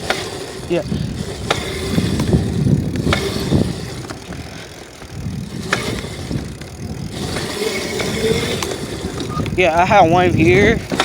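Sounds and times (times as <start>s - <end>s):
bicycle tyres rumbling: 0.0s - 11.0s.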